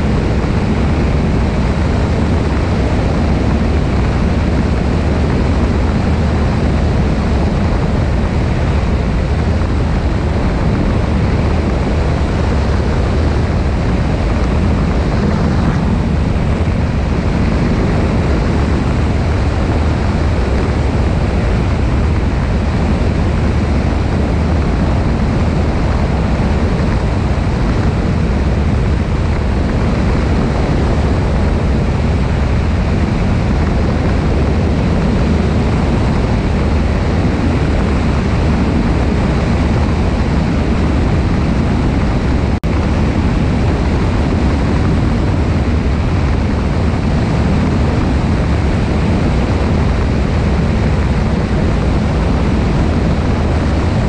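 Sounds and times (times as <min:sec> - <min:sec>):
airflow rushing over microphone: 0:00.0 - 0:54.0
piston engine and propeller drone: 0:00.0 - 0:54.0.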